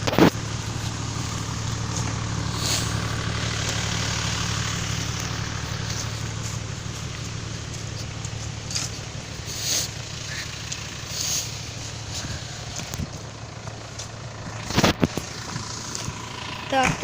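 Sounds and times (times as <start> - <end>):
vehicle engine driving through mud: 0.0 - 17.0.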